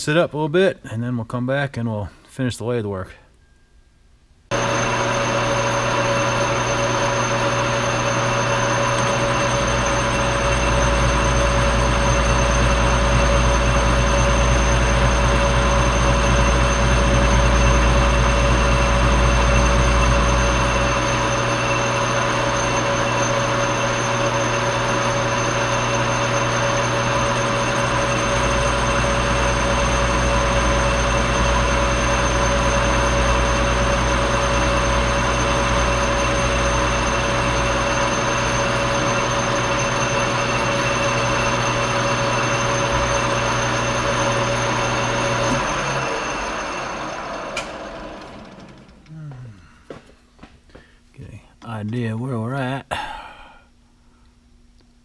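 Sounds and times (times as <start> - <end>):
metal lathe running: 4.5 - 49.2.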